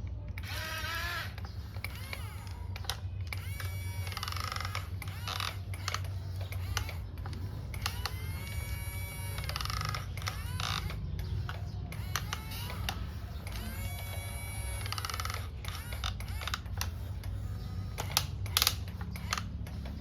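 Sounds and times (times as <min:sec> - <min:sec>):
clicks: 0:00.0 - 0:20.0
small electric motor humming: 0:00.0 - 0:20.0.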